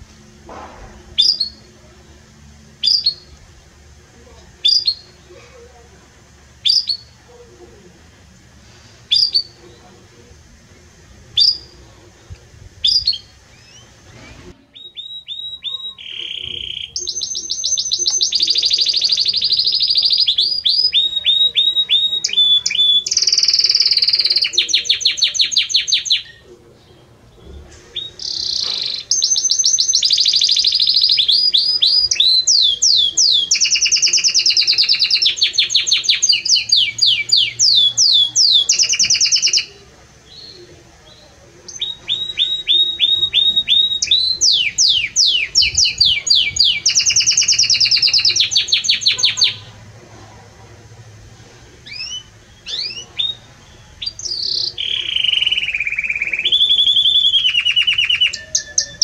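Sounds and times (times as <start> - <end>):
canary singing trills: 0.0 - 5.8, 6.5 - 7.6, 9.0 - 10.0, 11.0 - 11.9, 12.8 - 50.0, 51.8 - 59.0.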